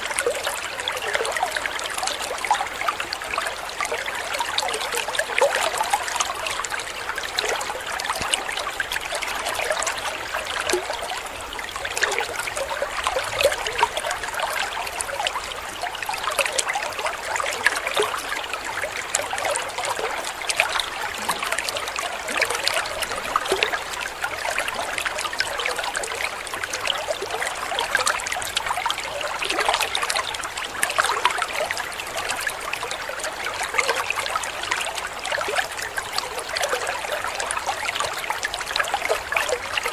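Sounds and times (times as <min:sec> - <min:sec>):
waterfall trickling and splashing: 0:00.0 - 0:39.9.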